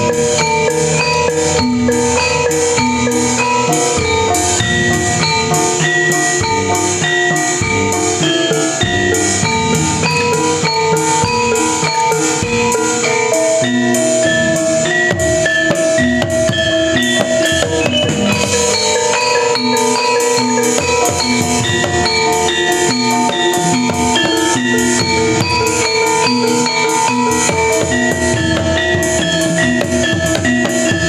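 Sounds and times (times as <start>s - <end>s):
bronze metallophones ringing: 0.0s - 31.0s
hand drums: 0.0s - 31.0s.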